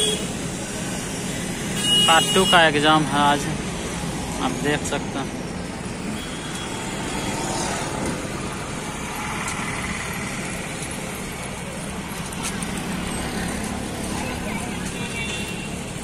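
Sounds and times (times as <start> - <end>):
highway traffic passing: 0.0 - 16.0
motorcycles passing: 0.0 - 16.0.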